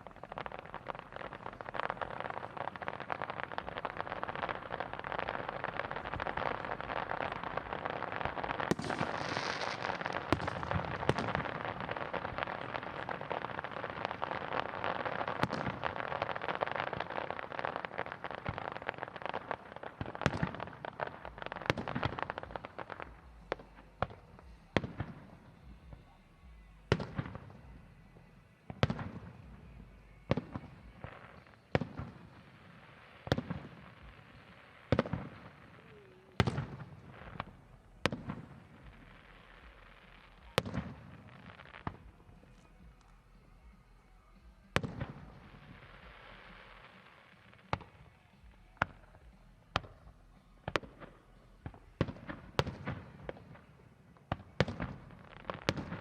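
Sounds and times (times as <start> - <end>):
firework bangs: 0.0 - 27.9, 28.7 - 56.0
fireworks crackling and popping: 0.0 - 56.0.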